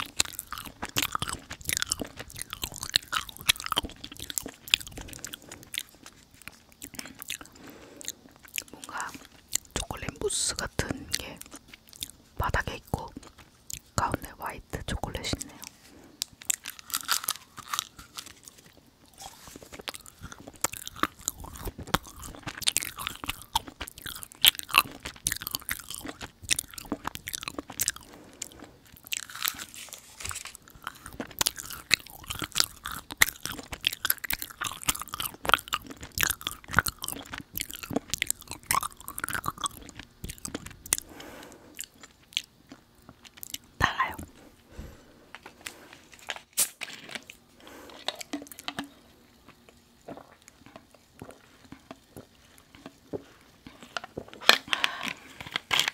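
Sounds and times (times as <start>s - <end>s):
crisp chewing and crunching: 0.0s - 55.9s.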